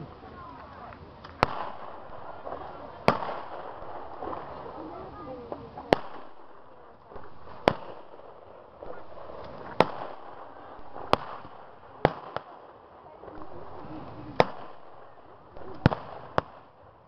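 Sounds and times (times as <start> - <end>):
blank gunshots: 1.4 - 12.6, 13.2 - 16.7.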